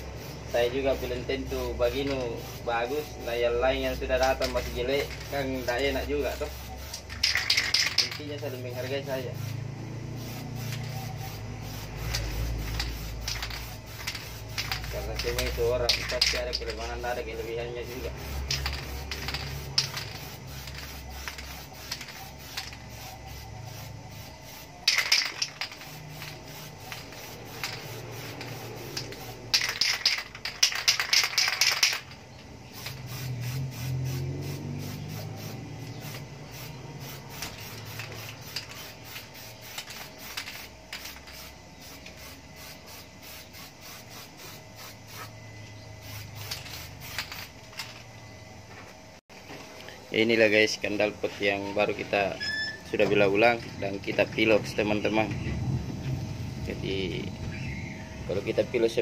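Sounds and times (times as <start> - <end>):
spray paint can hissing: 0.0 - 48.0.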